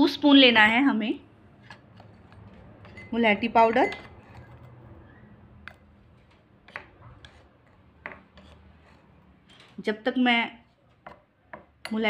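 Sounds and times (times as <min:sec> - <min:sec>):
spoon scraping powder: 0:01.2 - 0:12.0.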